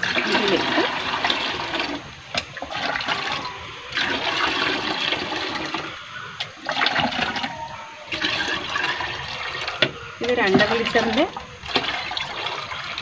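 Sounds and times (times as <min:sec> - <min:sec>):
water pouring and splashing: 0:00.0 - 0:13.0.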